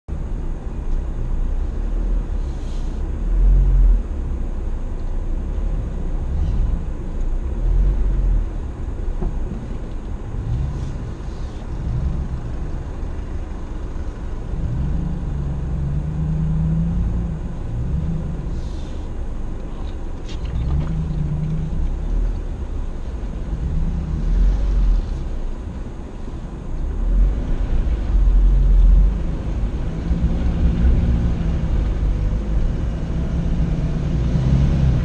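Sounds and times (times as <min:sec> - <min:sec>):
truck engine rumble: 0:00.1 - 0:35.0.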